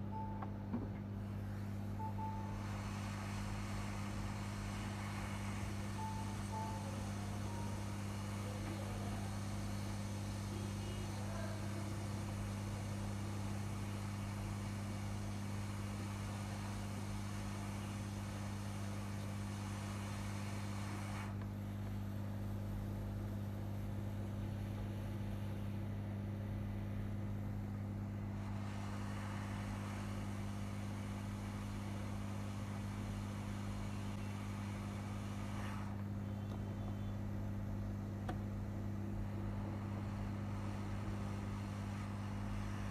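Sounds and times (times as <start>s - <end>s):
low electrical hum: 0.0s - 42.9s
hot air blower hissing: 1.1s - 26.0s, 27.1s - 42.9s.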